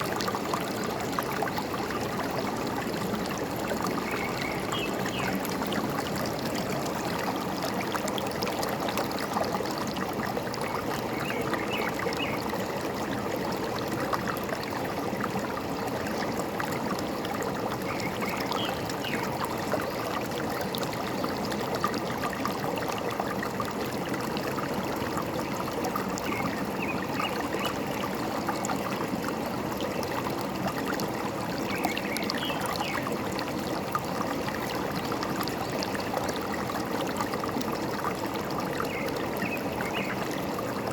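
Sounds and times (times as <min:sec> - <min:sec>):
forest stream babbling: 0:00.0 - 0:40.9.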